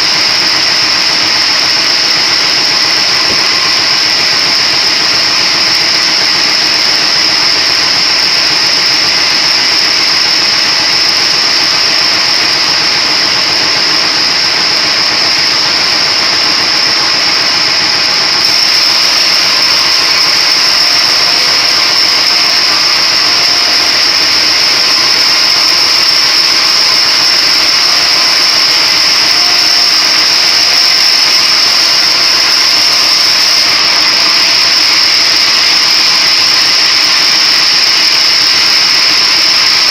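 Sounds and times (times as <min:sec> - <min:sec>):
splitting machine whining: 0:00.0 - 0:39.9.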